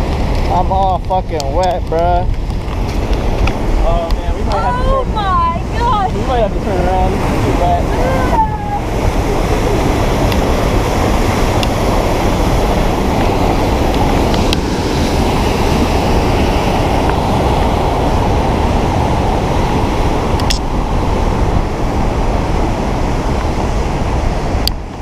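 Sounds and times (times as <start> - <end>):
waterfall roaring: 0.0 - 25.0
wind buffeting microphone: 0.0 - 25.0.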